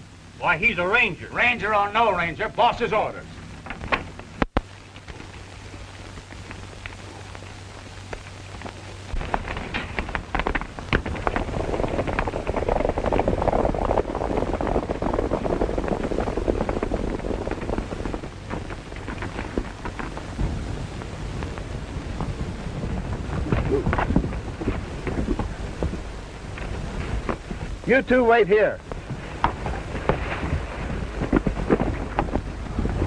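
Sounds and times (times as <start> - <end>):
film soundtrack hiss: 0.0 - 33.0
horse hoofbeats galloping: 3.6 - 33.0.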